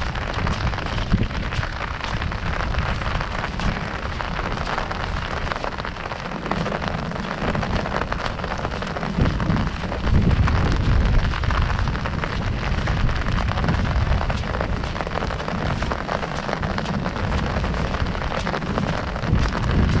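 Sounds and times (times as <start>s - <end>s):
heavy rain on an umbrella: 0.0s - 20.0s
low rumble: 0.0s - 20.0s.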